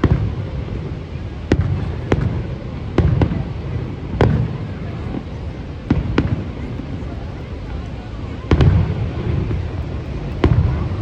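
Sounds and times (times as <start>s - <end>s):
fireworks bangs: 0.0s - 11.0s
low rumble of fireworks display: 0.0s - 11.0s.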